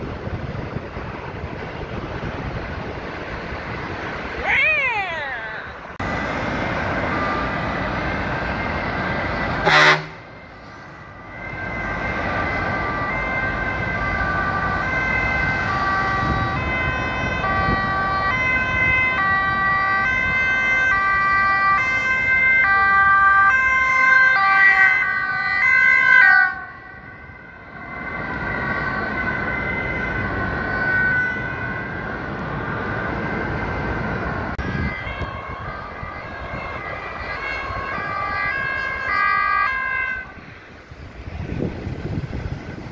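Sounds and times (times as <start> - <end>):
steady traffic noise: 0.0 - 42.9
two-tone emergency sirens: 4.5 - 42.9.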